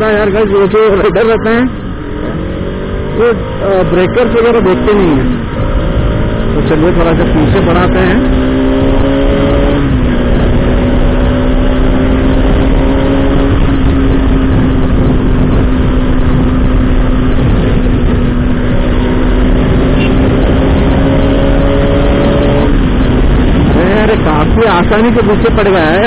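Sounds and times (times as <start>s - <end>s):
motorcycle engine cruising: 0.0s - 26.0s
wind rush on microphone: 0.0s - 26.0s.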